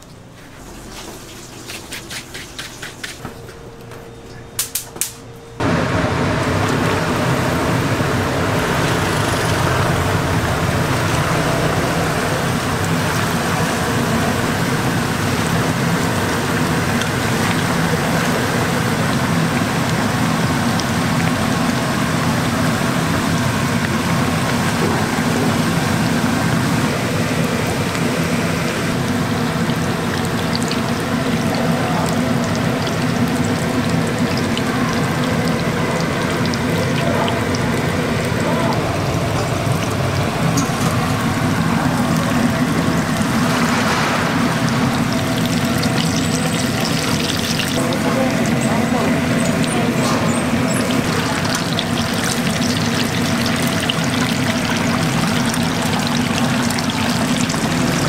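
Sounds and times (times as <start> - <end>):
hot oil sizzling and bubbling: 4.6 - 58.0.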